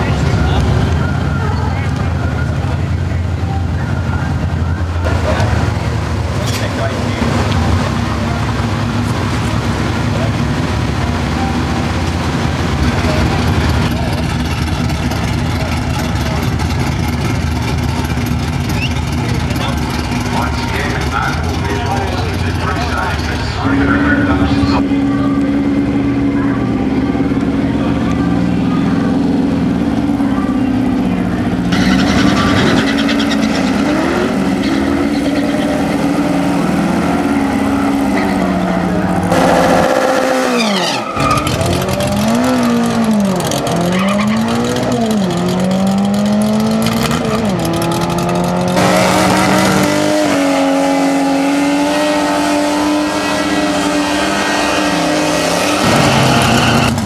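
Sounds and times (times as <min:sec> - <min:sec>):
car engine running: 0:00.0 - 0:57.0
engine revving: 0:05.0 - 0:57.0.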